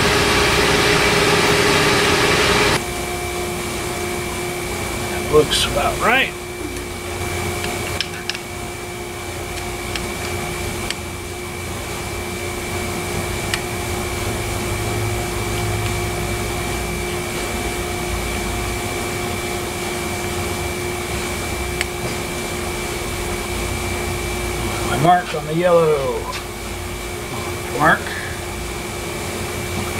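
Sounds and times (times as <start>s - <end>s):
fan motor humming and whining: 0.0s - 29.9s.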